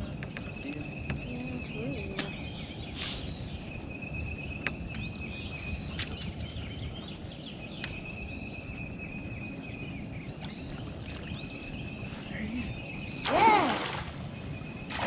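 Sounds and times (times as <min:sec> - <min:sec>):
birds chirping: 0:00.0 - 0:15.0
low rumble of wind: 0:00.0 - 0:15.0.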